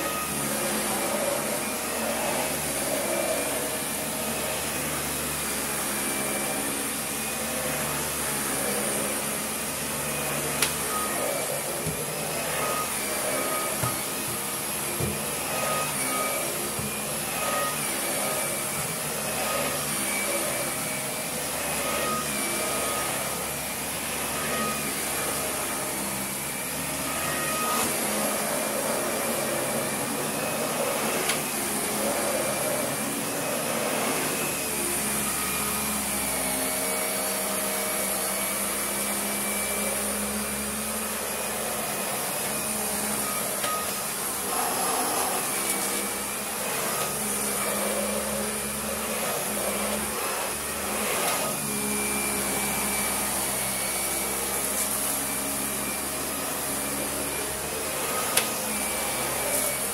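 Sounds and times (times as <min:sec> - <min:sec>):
vacuum cleaner whining: 0:00.0 - 0:59.9.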